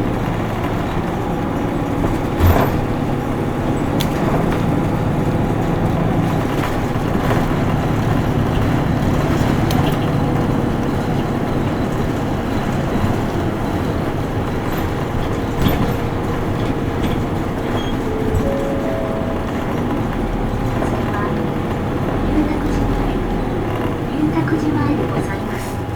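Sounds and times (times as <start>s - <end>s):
bus diesel engine running: 0.0s - 25.9s
road noise: 0.0s - 25.9s.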